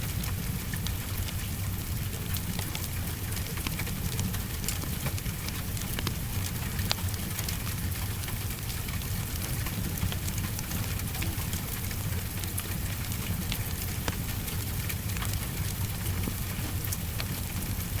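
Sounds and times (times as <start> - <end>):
heavy rain: 0.0 - 18.0
wood fire crackling: 0.0 - 18.0.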